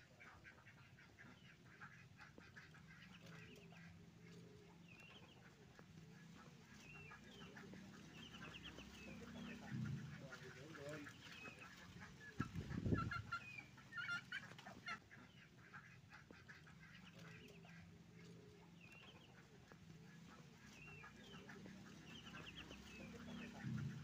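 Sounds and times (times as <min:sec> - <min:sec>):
ducklings peeping: 0:00.0 - 0:24.0.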